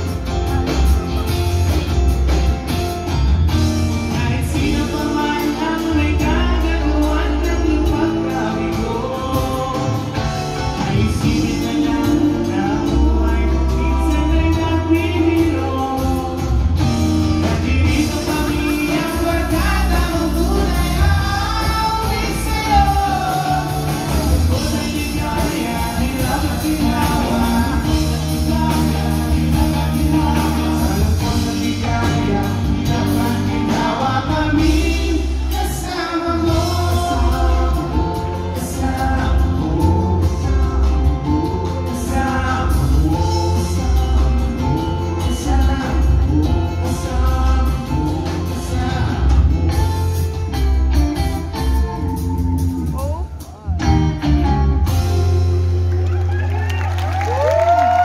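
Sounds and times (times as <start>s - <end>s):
person singing: 0.0s - 56.3s
rock band playing: 0.0s - 58.0s.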